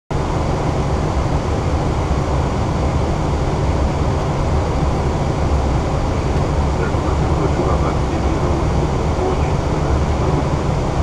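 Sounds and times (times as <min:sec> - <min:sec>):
air conditioning: 0:00.1 - 0:11.0
airflow around aircraft nose: 0:00.2 - 0:11.0.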